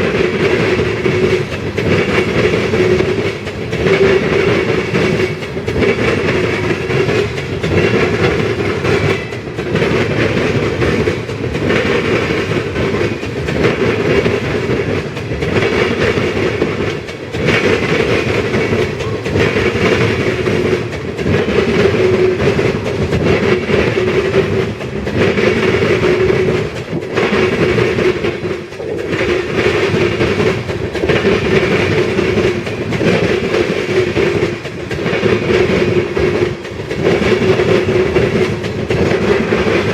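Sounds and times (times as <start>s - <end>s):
freight train wheels on rails: 0.0s - 39.9s
train wheels clickety-clack: 0.0s - 39.9s.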